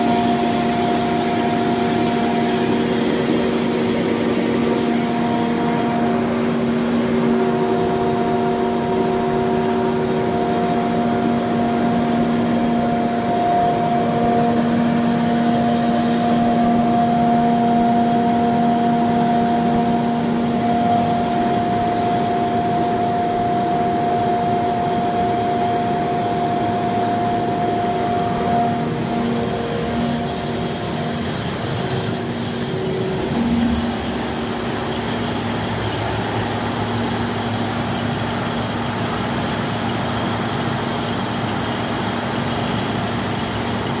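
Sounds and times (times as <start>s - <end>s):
diesel generator running: 0.0s - 44.0s
steady whine: 0.0s - 44.0s.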